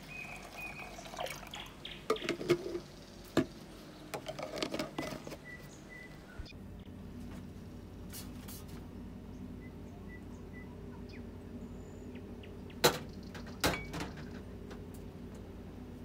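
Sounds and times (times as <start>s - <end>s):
steady low hum: 1.6s - 16.0s.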